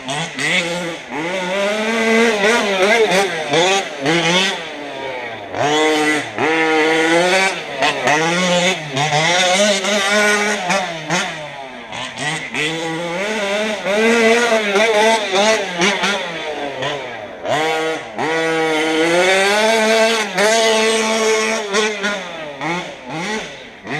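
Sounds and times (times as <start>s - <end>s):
model car engine revving: 0.0s - 23.9s.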